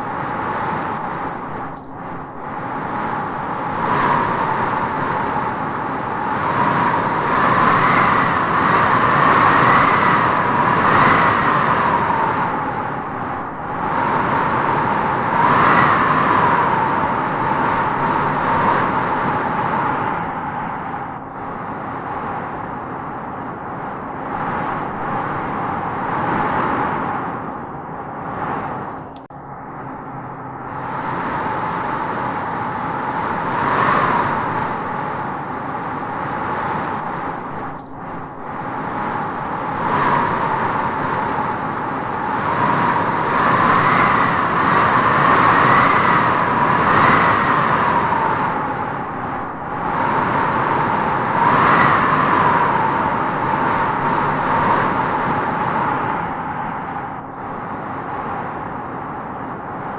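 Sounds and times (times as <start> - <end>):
wind howling in gusts: 0.0 - 59.9.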